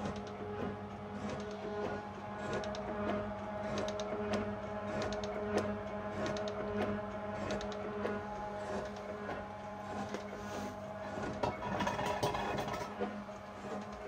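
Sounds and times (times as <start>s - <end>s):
metal shaper humming: 1.1s - 14.0s.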